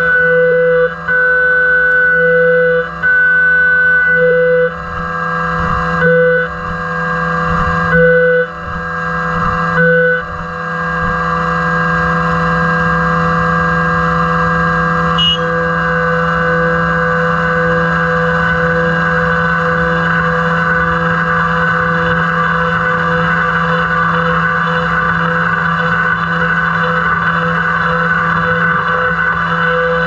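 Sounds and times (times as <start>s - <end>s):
milling machine cutting metal: 0.0s - 30.0s.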